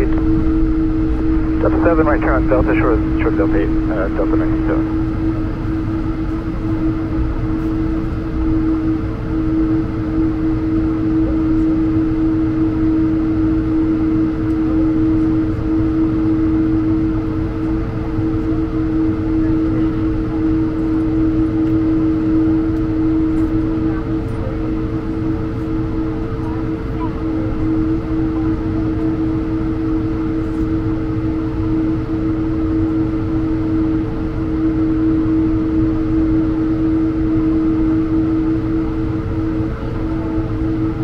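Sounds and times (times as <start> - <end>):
aircraft engines idling in cabin: 0.0 - 41.0.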